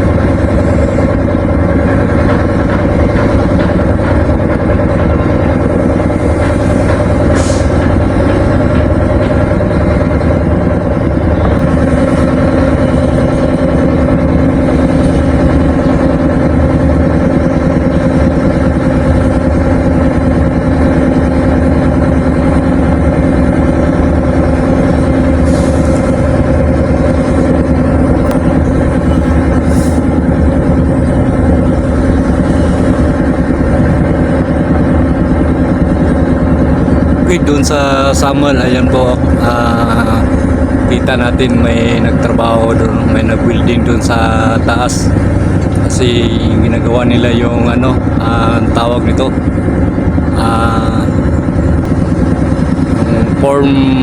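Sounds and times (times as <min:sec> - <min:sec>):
large engine running: 0:00.0 - 0:54.0.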